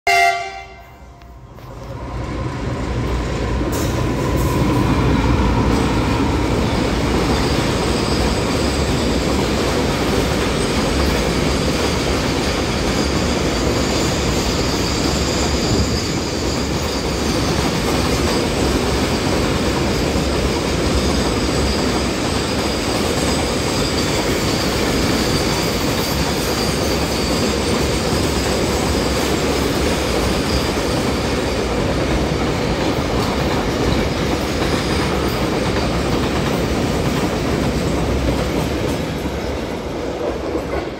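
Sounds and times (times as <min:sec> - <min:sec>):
wheels rumbling on rails: 0:01.2 - 0:40.9.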